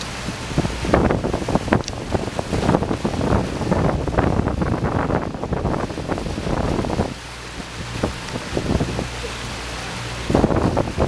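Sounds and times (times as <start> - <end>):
boat wake churning: 0.0 - 11.0
outboard motor humming: 0.0 - 11.0
wind buffeting microphone: 0.0 - 11.0.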